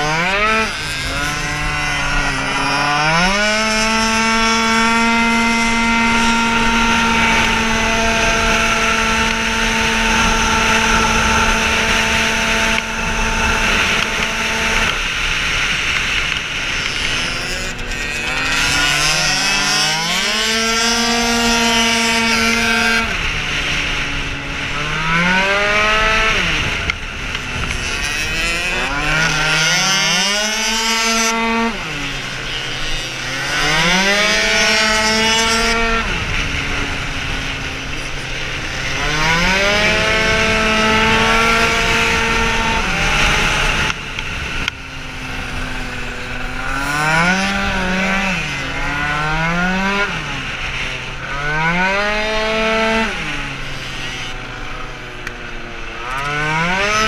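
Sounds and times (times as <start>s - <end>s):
two-stroke scooter engine revving: 0.0s - 57.0s.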